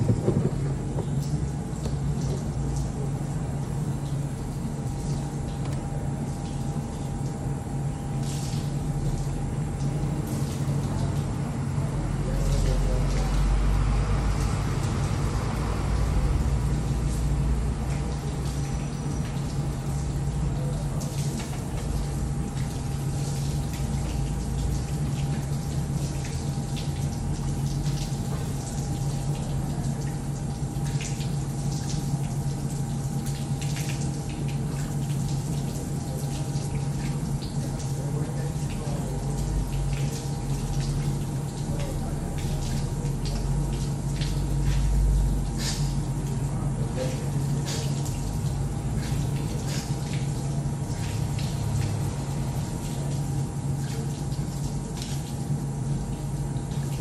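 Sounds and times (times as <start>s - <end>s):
tap water splashing on steel grating: 0.0s - 3.0s, 4.0s - 7.4s, 16.9s - 46.4s, 47.0s - 57.0s
small splashes of washing: 0.0s - 57.0s
steady low hum: 0.0s - 57.0s.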